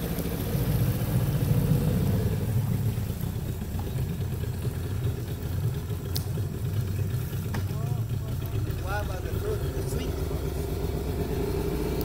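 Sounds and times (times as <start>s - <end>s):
outboard motor rumbling: 0.0s - 12.0s.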